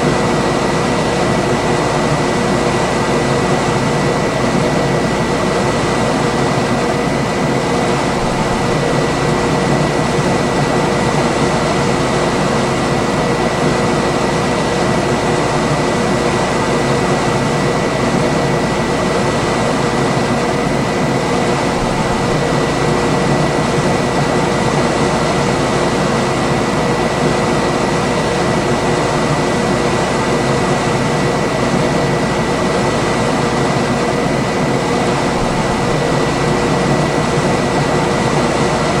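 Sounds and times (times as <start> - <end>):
air conditioner fan rush: 0.0 - 39.0
air conditioner hum: 0.0 - 39.0.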